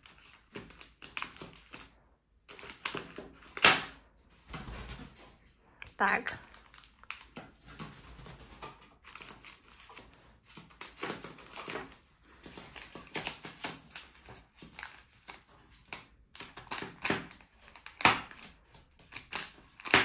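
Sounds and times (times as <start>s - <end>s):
bird pecking at wrapper and table: 0.0s - 5.4s, 6.4s - 20.0s.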